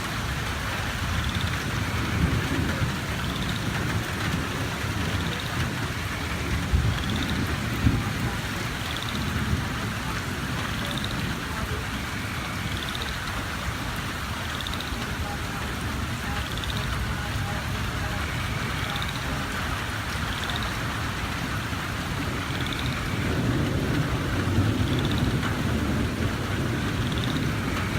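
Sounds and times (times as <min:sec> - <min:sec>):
heavy rain pouring: 0:00.0 - 0:27.9
thunder rumbling: 0:00.0 - 0:27.9.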